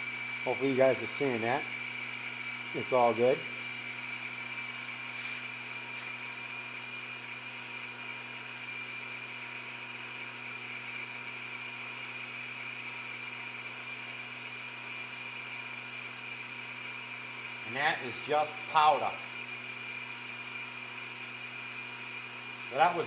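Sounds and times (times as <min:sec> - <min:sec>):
metal lathe humming with high whine: 0:00.0 - 0:23.0.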